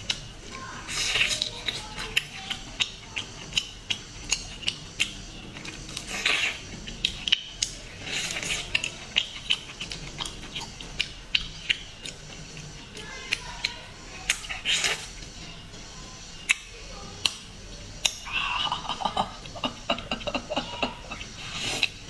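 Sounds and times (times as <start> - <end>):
hissy eating noise: 0.0 - 22.0.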